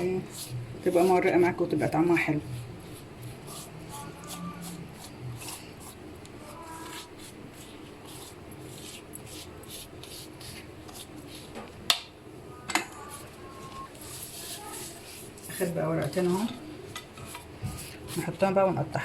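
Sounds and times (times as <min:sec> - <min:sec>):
pastry brush strokes: 0:00.0 - 0:11.8, 0:13.0 - 0:19.0.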